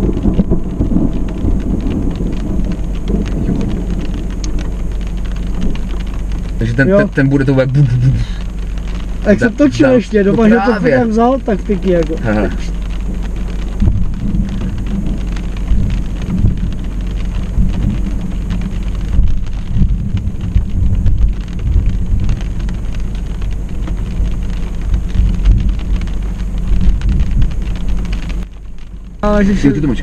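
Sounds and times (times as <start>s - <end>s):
rain pattering on car roof: 0.0s - 30.0s
rumbles of thunder: 0.0s - 30.0s.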